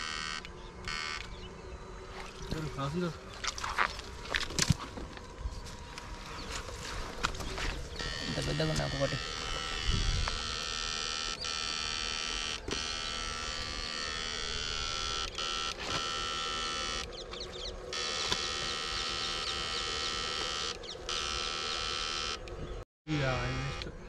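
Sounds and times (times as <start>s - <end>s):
electrofishing unit buzzing: 0.0s - 24.0s.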